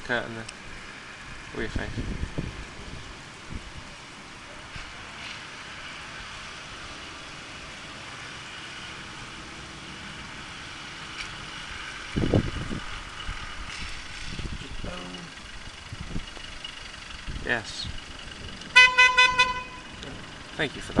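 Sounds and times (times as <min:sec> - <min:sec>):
traffic on wet road: 0:00.0 - 0:21.0.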